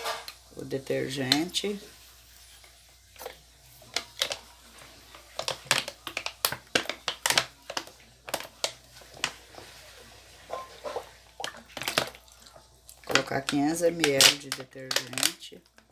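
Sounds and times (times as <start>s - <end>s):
plastic bottle crinkling: 2.4s - 15.9s.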